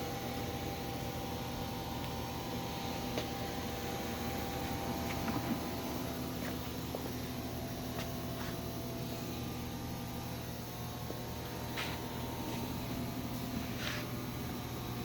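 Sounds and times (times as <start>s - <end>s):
lathe spindle motor humming: 0.0s - 15.0s.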